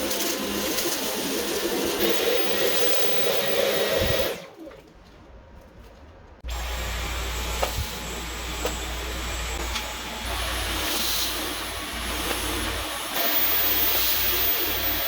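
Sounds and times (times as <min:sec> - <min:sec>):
vacuum cleaner running: 0:00.0 - 0:04.5, 0:06.5 - 0:15.0.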